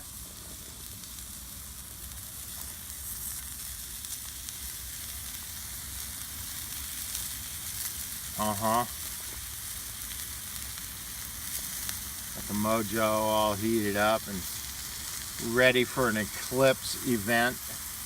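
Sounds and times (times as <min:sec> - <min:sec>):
cheese sizzling on a griddle: 0:00.0 - 0:18.0
faint crackles: 0:00.0 - 0:18.0.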